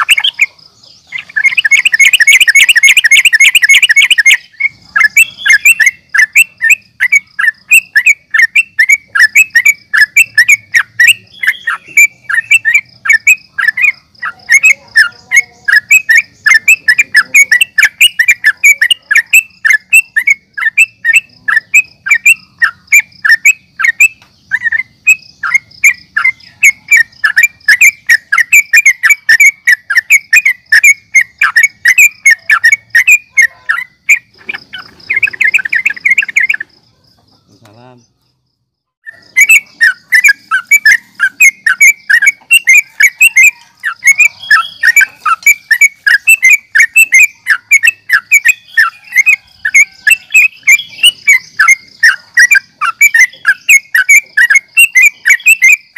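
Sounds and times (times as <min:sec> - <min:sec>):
bird chattering song: 0:00.0 - 0:55.9.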